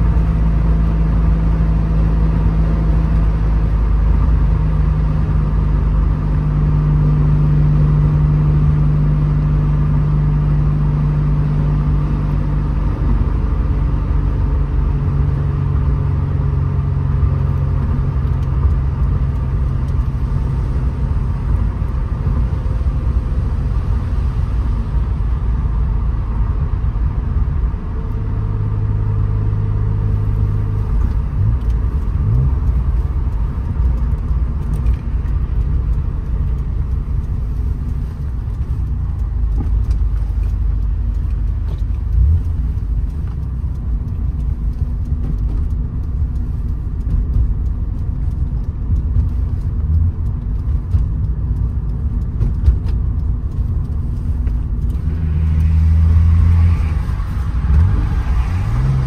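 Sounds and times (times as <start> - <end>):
car engine running: 0.0 - 59.0
road and tyre rumble: 0.0 - 59.0.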